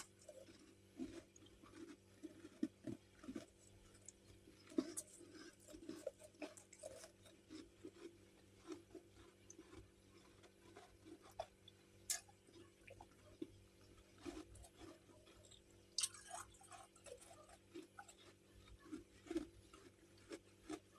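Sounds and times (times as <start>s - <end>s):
chewing frost crunches: 0.0s - 20.9s
low steady hum: 0.0s - 20.9s.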